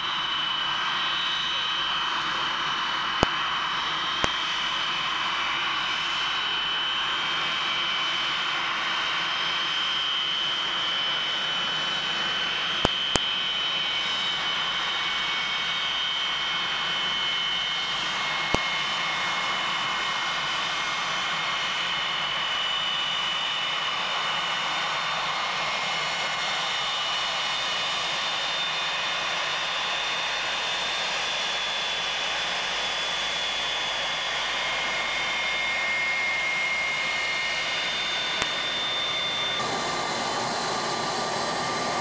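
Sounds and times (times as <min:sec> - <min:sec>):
jet engines running: 0:00.0 - 0:42.0.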